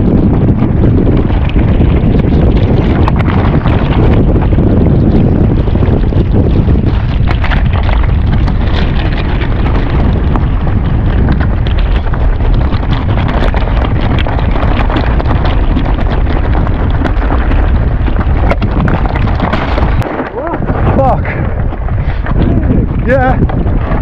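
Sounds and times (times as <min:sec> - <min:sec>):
scattered clicks and rattles: 0:00.0 - 0:24.0
strong wind buffeting microphone: 0:00.0 - 0:24.0.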